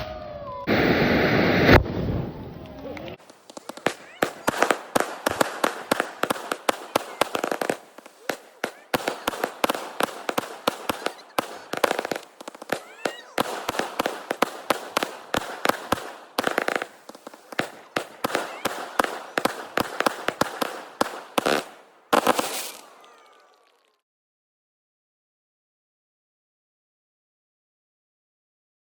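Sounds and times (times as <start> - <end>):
loud firework burst: 0.0 - 23.8
fireworks cracking and popping: 0.4 - 24.0
rushing hiss of fireworks: 0.6 - 24.0.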